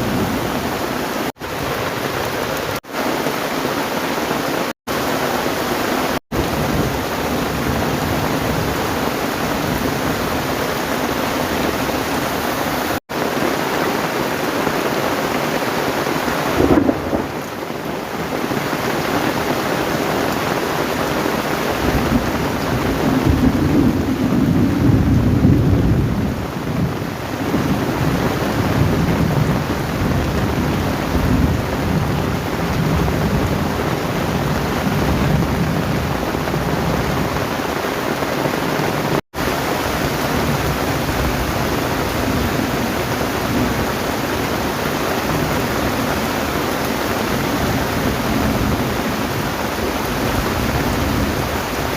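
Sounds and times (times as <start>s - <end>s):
heavy rain pouring: 0.0s - 51.9s
thunder rumbling: 6.3s - 14.0s, 16.2s - 51.9s.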